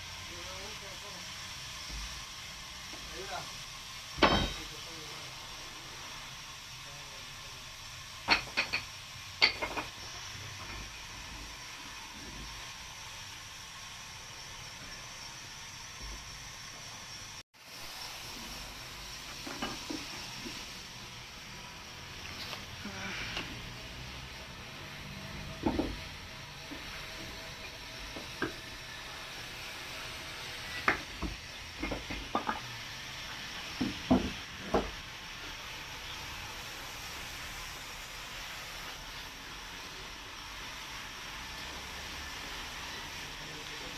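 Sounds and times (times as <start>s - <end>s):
sawmill machinery hiss: 0.0s - 43.9s.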